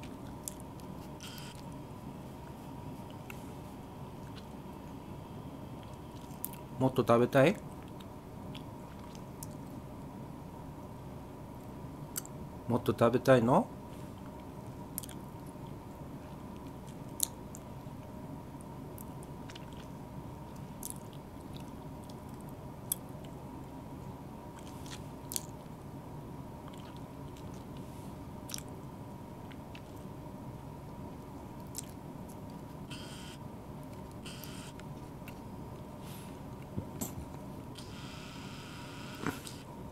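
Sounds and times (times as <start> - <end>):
faint high hum: 0.0 - 39.9.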